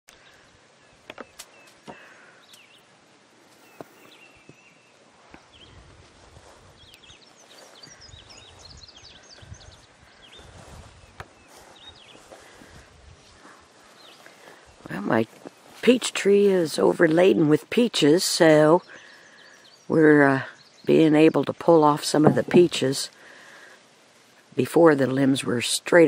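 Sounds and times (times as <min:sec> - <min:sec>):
birds chirping: 0:00.1 - 0:26.0
leaves rustling: 0:00.2 - 0:17.5, 0:21.9 - 0:25.9.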